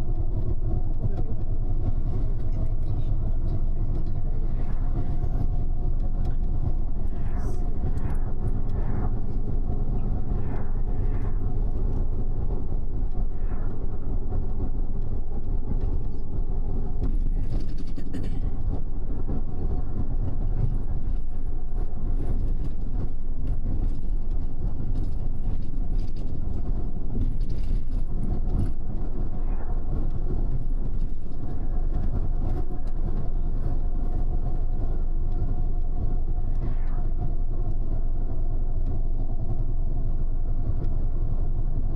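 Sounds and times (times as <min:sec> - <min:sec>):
bus engine and road noise: 0:00.0 - 0:41.9.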